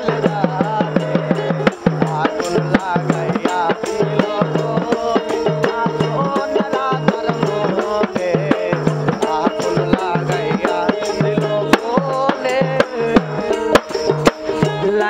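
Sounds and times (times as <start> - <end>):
percussion beat: 0.0 - 15.0.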